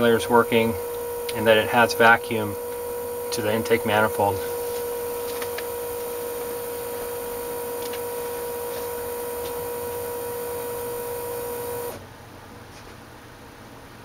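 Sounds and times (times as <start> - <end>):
electric fuel pump whining: 0.0 - 12.0.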